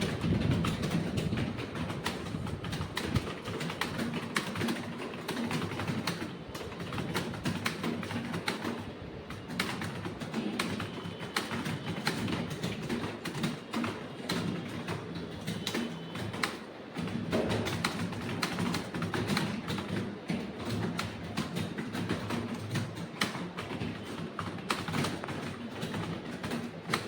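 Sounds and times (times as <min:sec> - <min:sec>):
keyboard keys clicking: 0:00.0 - 0:27.0.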